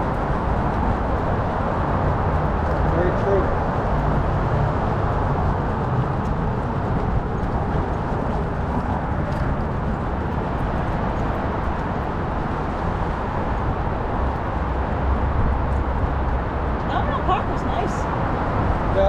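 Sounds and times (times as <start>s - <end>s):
traffic noise: 0.0s - 19.0s
wind: 0.0s - 19.0s.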